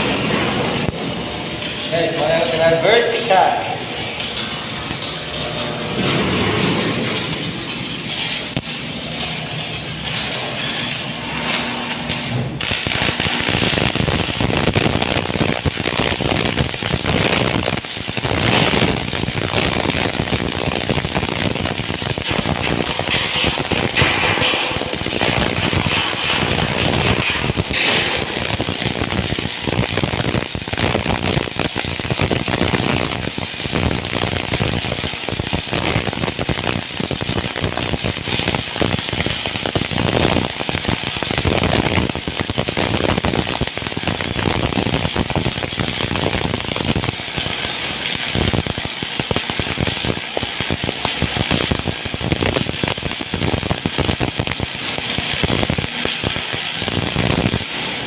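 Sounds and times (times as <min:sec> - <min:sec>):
arc welding crackling: 0:00.0 - 0:58.0.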